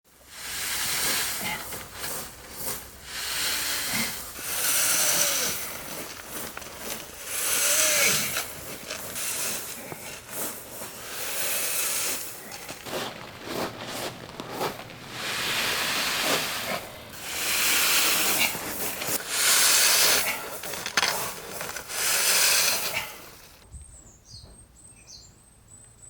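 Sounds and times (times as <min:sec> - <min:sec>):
rake scraping through gravel: 0:00.2 - 0:23.6.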